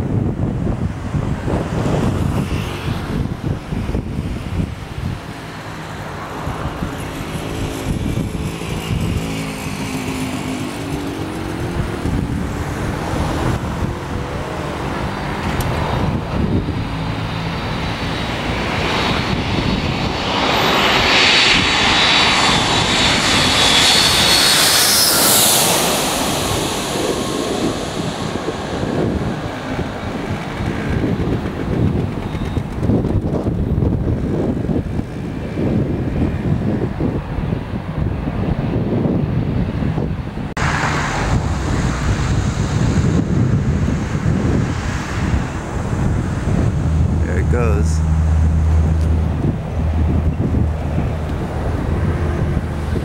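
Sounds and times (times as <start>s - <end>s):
high jet engine whine: 0.0s - 53.0s
jet airliner passing overhead: 0.0s - 53.0s.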